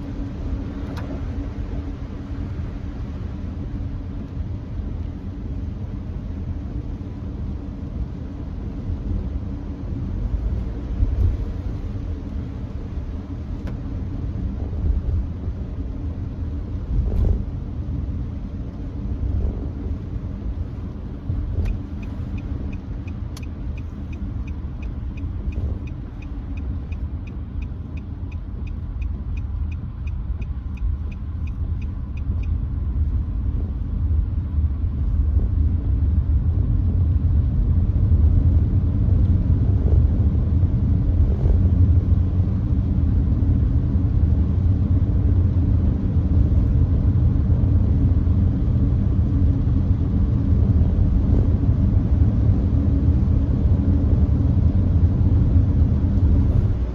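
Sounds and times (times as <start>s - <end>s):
tyres rumbling on wet road: 0.0s - 56.9s.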